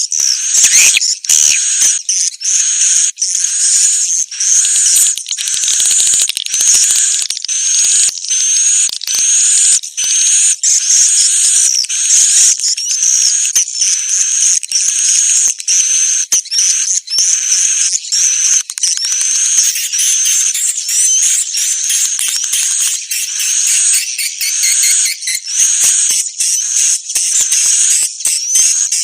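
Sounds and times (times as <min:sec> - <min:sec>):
bird lure call chirps and whistles: 0:00.0 - 0:29.0.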